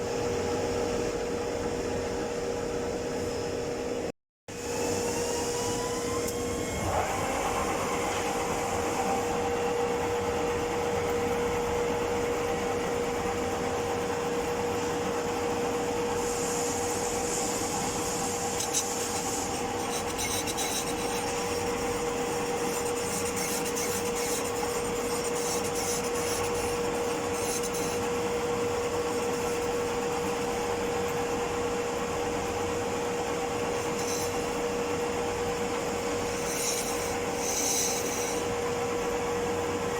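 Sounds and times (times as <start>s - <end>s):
metal lathe humming: 4.5s - 39.9s
lathe cutting metal scraping: 5.1s - 39.9s.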